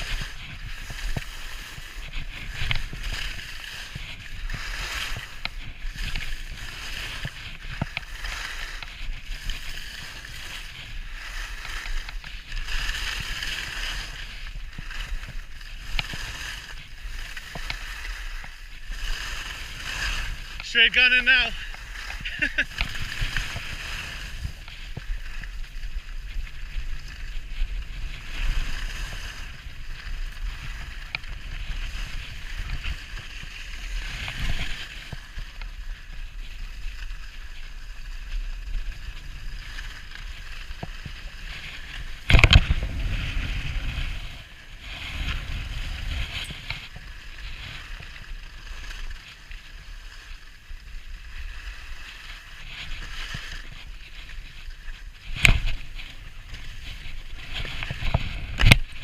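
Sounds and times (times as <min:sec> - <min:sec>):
skis scraping over snow: 0:00.0 - 0:59.0.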